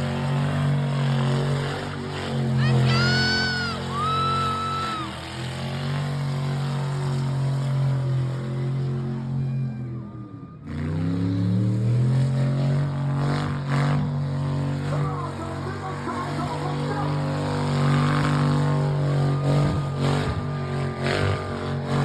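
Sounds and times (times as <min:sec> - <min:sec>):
car engine revving: 0:00.0 - 0:09.8, 0:10.4 - 0:22.0.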